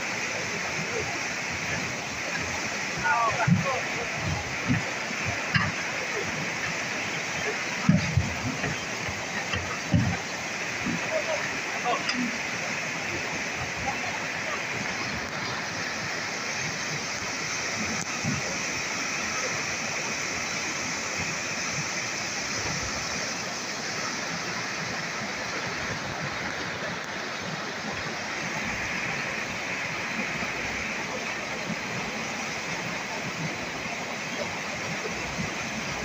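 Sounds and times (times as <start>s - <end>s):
river rushing over rocks: 0.0s - 36.0s.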